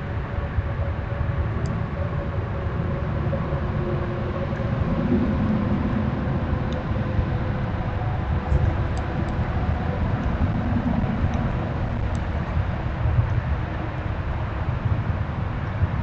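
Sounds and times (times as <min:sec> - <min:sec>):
distant motor traffic rumble: 0:00.0 - 0:16.0.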